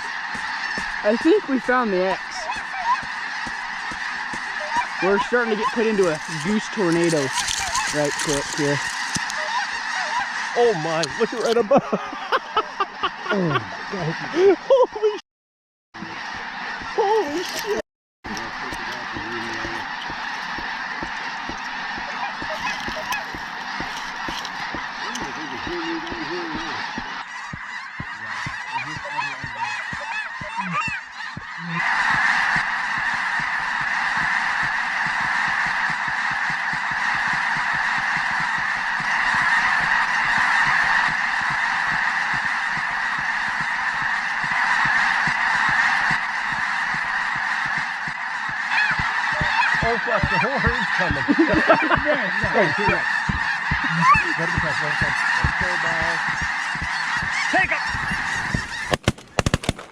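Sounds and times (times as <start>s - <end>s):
flock of geese honking: 0.0s - 15.2s, 16.0s - 59.9s.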